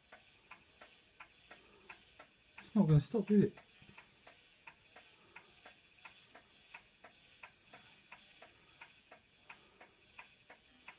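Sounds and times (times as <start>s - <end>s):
clock ticking: 0.0s - 10.9s.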